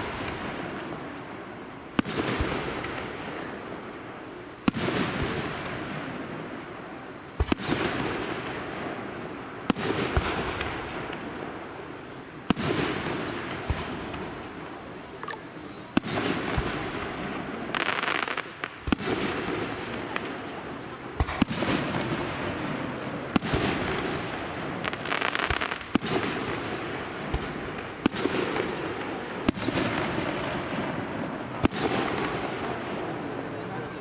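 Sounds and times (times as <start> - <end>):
firework crackle: 0.0 - 34.0.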